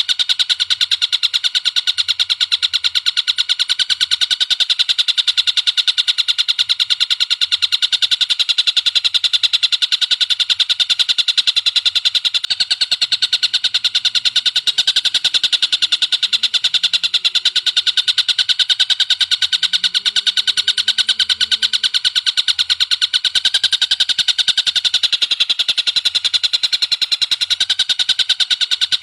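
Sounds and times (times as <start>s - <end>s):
bird calling rapid high notes: 3.1s - 29.0s.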